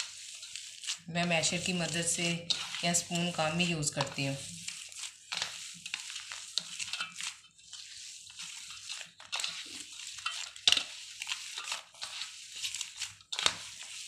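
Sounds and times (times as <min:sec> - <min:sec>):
hand squishing potato mixture: 0:00.0 - 0:14.0.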